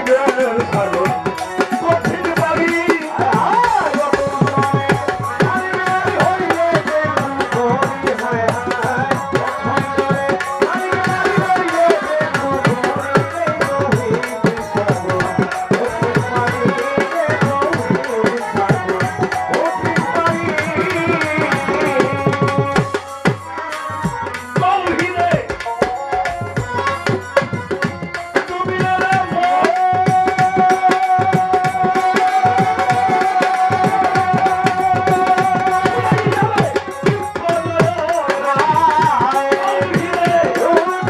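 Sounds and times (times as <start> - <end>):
hand drums beating: 0.0 - 41.0
violin melody: 0.0 - 41.0.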